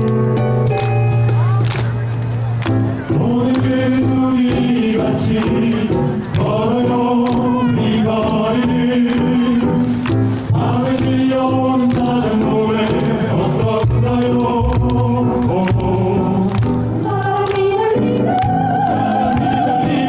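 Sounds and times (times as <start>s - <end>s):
choir singing held notes: 3.1s - 20.0s.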